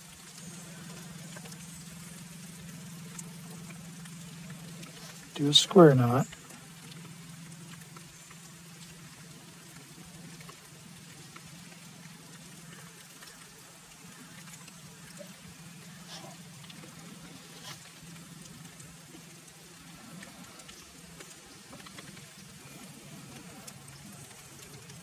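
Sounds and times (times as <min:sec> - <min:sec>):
soft ticks: 0:00.0 - 0:05.4, 0:06.2 - 0:25.0
low hum: 0:00.0 - 0:25.0
outdoor background hiss: 0:00.0 - 0:25.0.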